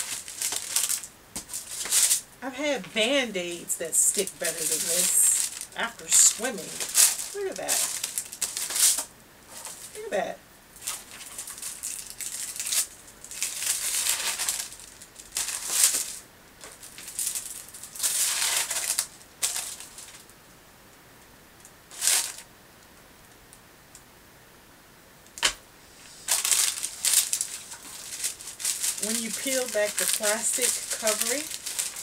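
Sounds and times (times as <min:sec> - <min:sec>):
plastic film peeling and crinkling: 0:00.0 - 0:10.1, 0:10.8 - 0:20.3, 0:21.9 - 0:22.5, 0:25.4 - 0:32.0.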